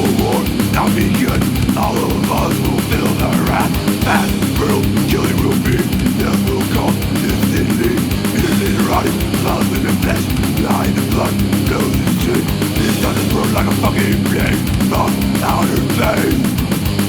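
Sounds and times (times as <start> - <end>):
distorted electric guitars: 0.0 - 17.0
rapid drumming: 0.0 - 17.0.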